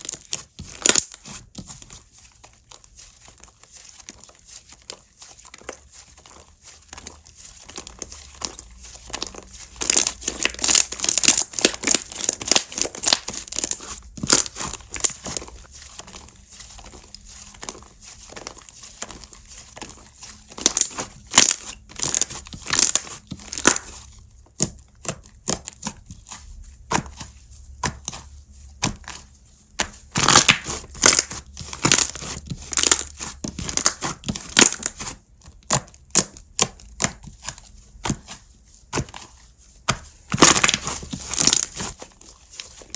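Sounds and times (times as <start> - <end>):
slime squished by hand: 0.0 - 42.9.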